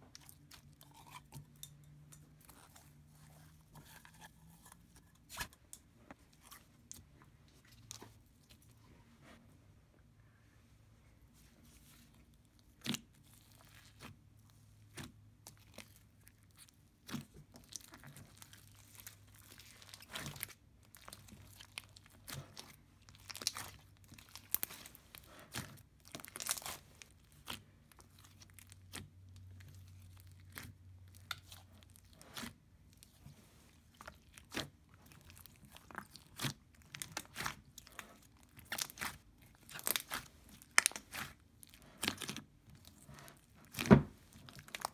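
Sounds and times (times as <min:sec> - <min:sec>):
hands kneading slime: 0:00.0 - 0:09.6, 0:11.0 - 0:44.9.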